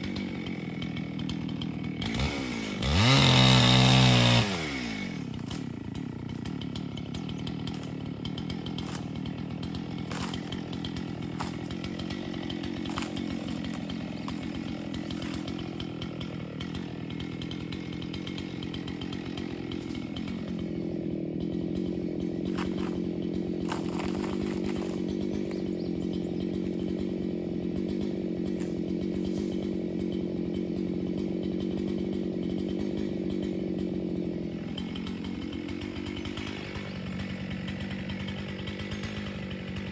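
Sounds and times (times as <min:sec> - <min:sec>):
chainsaw engine idling: 0:00.0 - 0:39.9.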